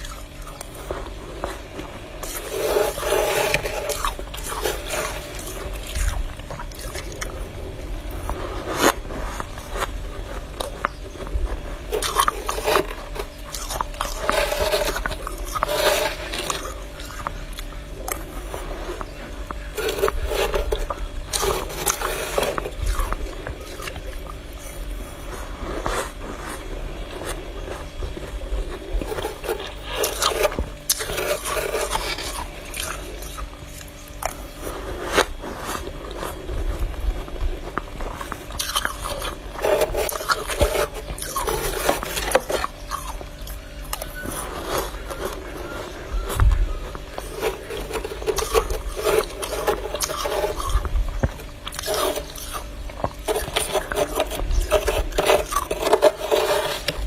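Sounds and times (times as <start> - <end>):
frost scraped off freezer wall: 0.0 - 57.0.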